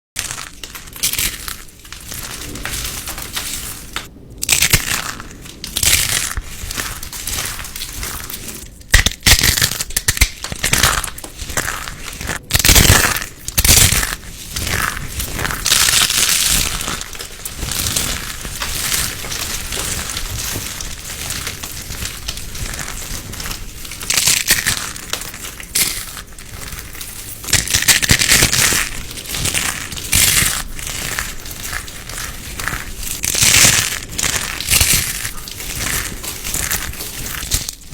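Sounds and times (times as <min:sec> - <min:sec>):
crunching and crinkling toys: 0:00.1 - 0:37.9.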